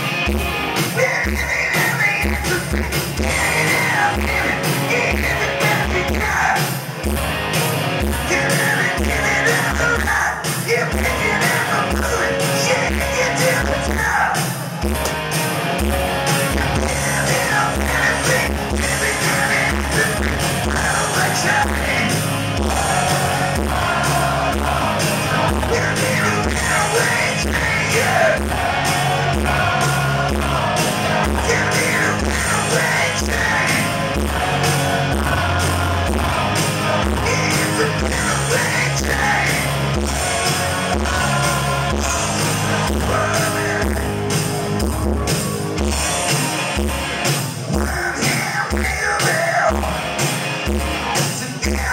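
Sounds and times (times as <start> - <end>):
hard rock band playing: 0.0 - 51.9
man singing lead vocals: 0.8 - 6.8, 8.1 - 14.6, 16.4 - 44.4, 47.7 - 50.2, 51.1 - 51.9.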